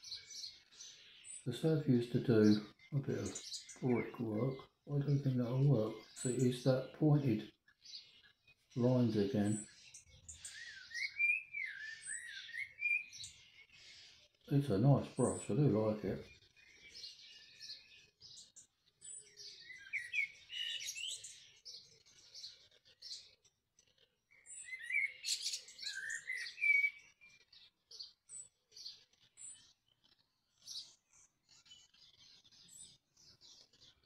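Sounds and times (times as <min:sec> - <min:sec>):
small birds chirping and singing: 0:00.0 - 0:34.0.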